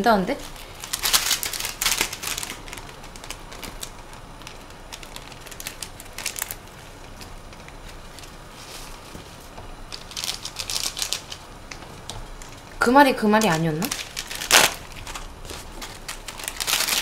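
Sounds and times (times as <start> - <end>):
plastic packets crinkling: 0.3 - 17.0.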